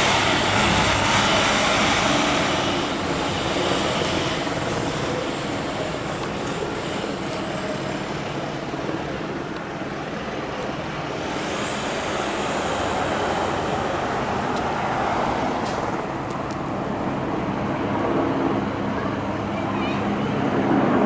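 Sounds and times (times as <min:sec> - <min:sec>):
fire engine pulling away: 0:00.0 - 0:17.4.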